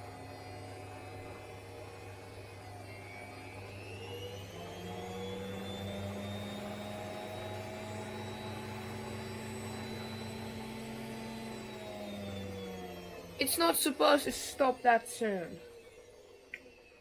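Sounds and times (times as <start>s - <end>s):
washing machine motor whine: 0.0s - 17.0s.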